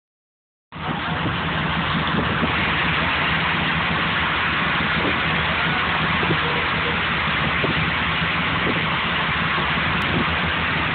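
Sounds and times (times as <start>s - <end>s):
boat engine running: 0.7s - 10.9s.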